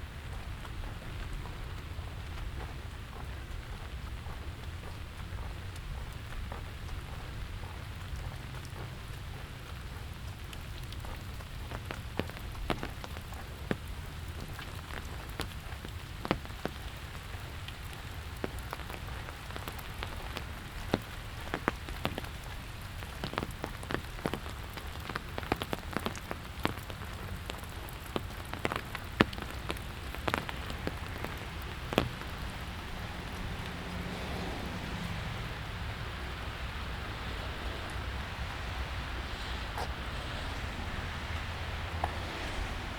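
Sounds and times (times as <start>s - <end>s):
raindrops tapping close by: 0.0s - 42.9s
steady rain: 0.0s - 42.9s.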